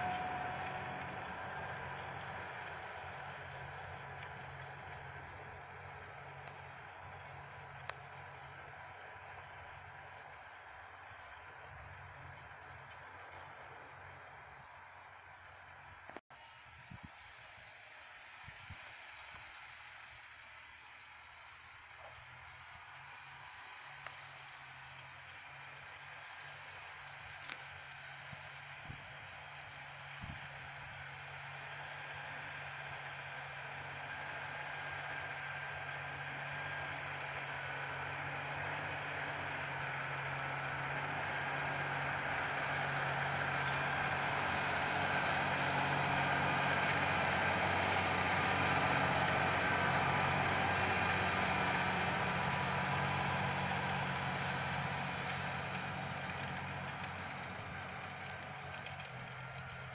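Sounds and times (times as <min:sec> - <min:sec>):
rush of cultivator in soil: 0:00.0 - 0:59.9
tractor diesel engine under load: 0:00.0 - 0:59.9.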